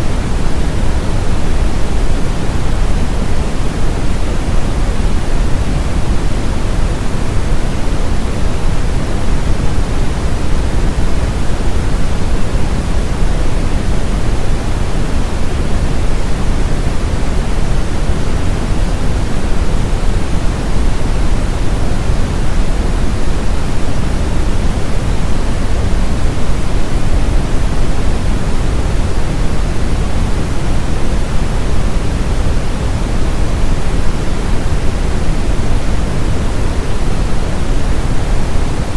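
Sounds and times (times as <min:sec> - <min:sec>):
brown noise rumbling hiss: 0:00.0 - 0:38.9.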